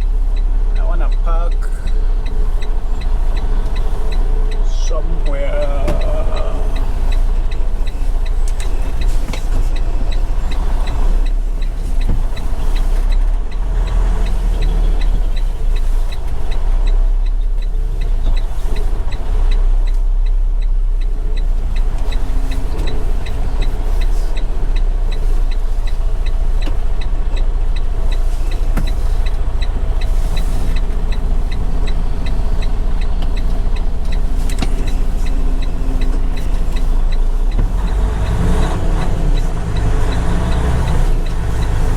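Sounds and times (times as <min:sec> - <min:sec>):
light ticking: 0:00.0 - 0:41.9
truck engine rumble: 0:00.0 - 0:41.9.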